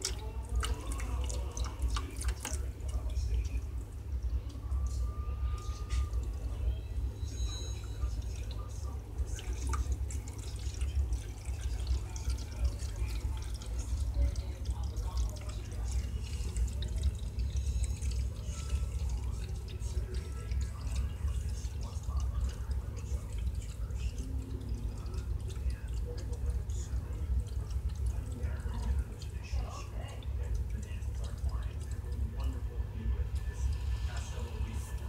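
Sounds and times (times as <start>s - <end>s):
constant low hum: 0.0s - 35.0s
water drips: 0.0s - 35.0s
water stream splashing into bowl: 0.0s - 35.0s.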